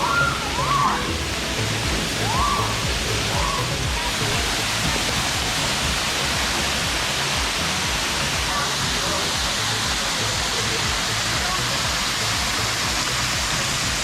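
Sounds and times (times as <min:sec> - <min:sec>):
background music: 0:00.0 - 0:14.0
waterfall roaring: 0:00.0 - 0:14.0.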